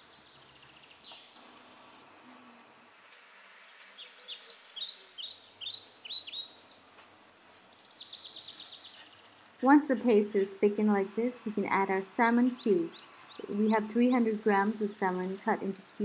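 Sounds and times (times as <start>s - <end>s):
songbird singing: 0.0s - 2.4s, 3.7s - 16.0s
faint steady hiss: 0.0s - 16.0s.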